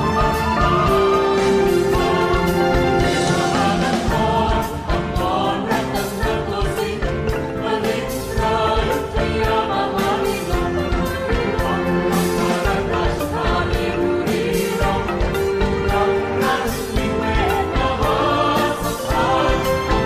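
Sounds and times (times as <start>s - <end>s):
pitched instruments: 0.0s - 20.0s
regular percussion beat: 0.0s - 20.0s.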